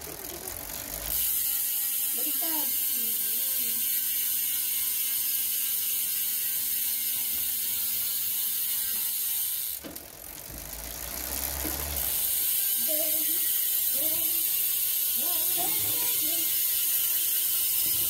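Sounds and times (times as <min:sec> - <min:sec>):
bicycle freehub ratcheting buzz: 0:00.0 - 0:18.0.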